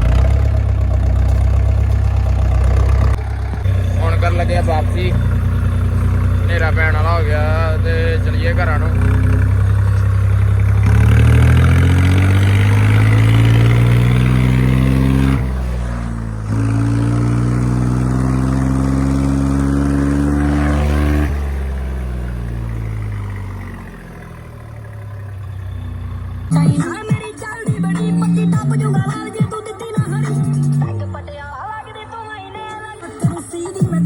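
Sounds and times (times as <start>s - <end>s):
tractor engine revving: 0.0s - 34.0s.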